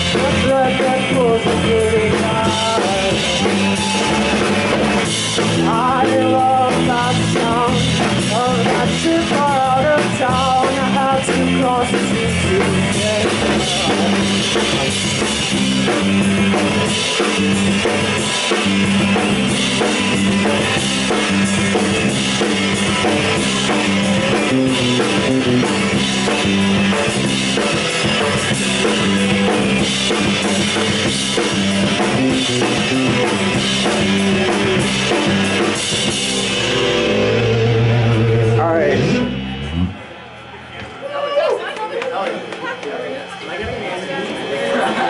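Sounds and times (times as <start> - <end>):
loud bass line: 0.0 - 41.1
drum kit: 0.0 - 41.2
live rock band playing: 0.0 - 42.0.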